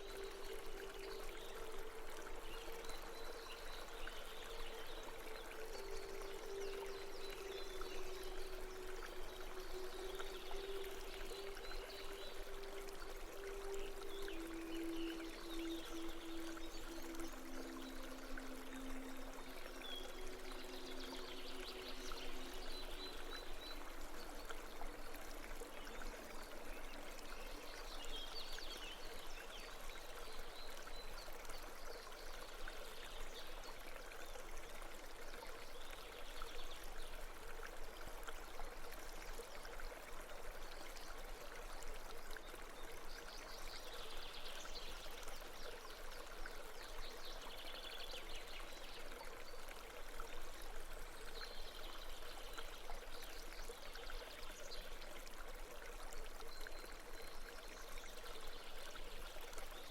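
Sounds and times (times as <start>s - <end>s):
babbling stream: 0.0s - 59.9s.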